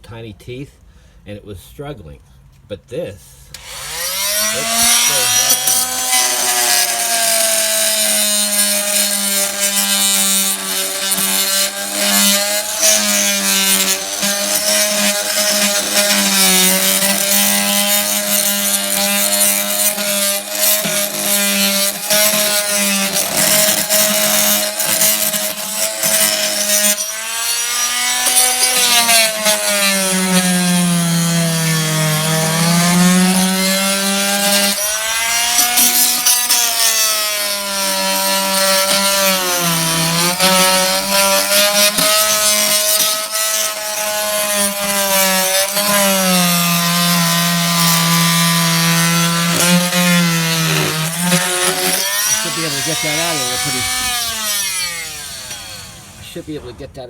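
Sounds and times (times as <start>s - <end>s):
blade scraping putty: 3.6s - 56.3s
oscillating multi-tool buzzing: 3.6s - 56.3s.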